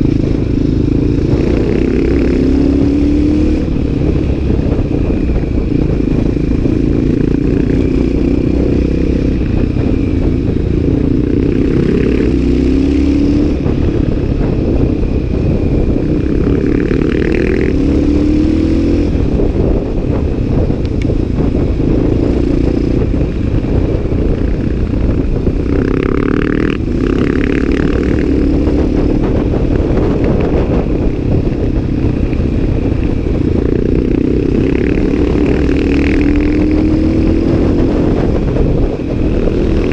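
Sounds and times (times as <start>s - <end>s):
motorcycle engine accelerating: 0.0s - 39.9s
wind rumble on microphone: 0.0s - 39.9s.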